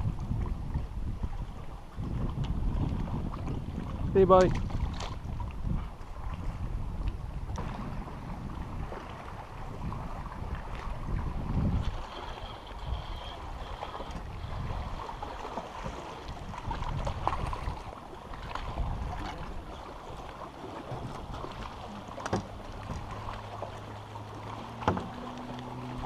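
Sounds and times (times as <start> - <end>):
water lapping at boat hull: 0.0 - 26.0
wind buffeting microphone: 0.0 - 26.0.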